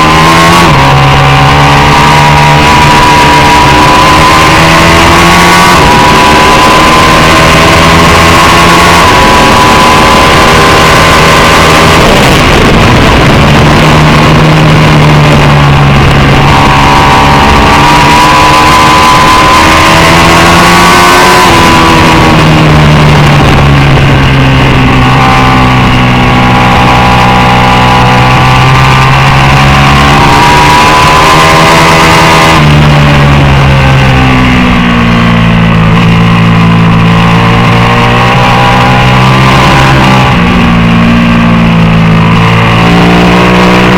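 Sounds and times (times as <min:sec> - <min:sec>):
motorcycle engine revving hard: 0:00.0 - 0:43.9
wind and road noise: 0:00.0 - 0:43.9.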